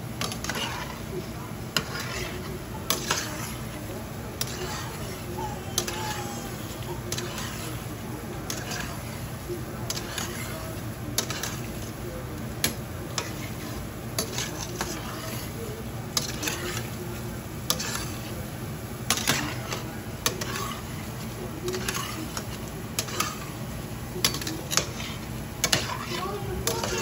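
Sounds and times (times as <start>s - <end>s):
metal utensil scraping a pot: 0.2s - 1.0s, 1.7s - 3.8s, 4.4s - 9.3s, 9.9s - 11.9s, 12.6s - 17.0s, 17.7s - 18.4s, 19.1s - 23.6s, 24.2s - 27.0s.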